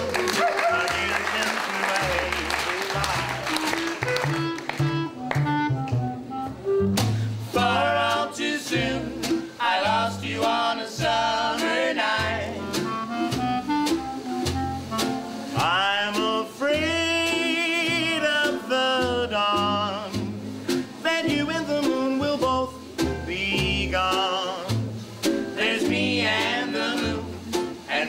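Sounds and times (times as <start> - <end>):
strummed ukulele: 0.0 - 6.0, 6.7 - 28.0
snare drum strokes: 0.0 - 6.1, 6.8 - 16.4, 19.6 - 28.0
clarinet melody: 0.0 - 28.0
upright bass walking: 0.0 - 28.0.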